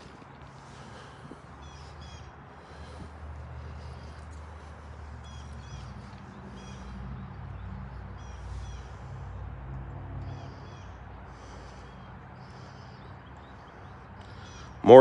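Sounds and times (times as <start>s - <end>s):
bird calling: 0.7s - 9.4s, 10.2s - 15.0s.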